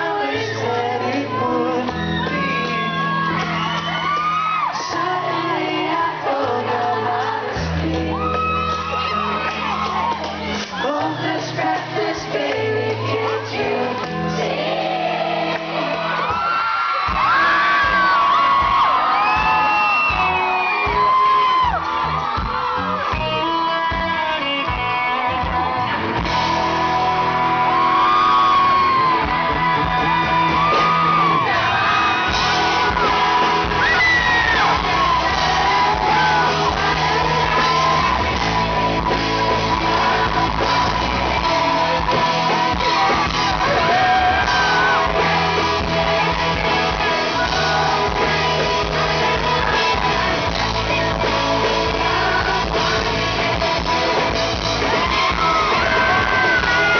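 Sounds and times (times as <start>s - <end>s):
person singing lead vocal: 0.0s - 21.8s, 23.0s - 56.9s
electric guitars: 0.0s - 56.9s
fans shouting and screaming: 0.0s - 56.9s
live pop-rock band playing: 0.0s - 56.9s.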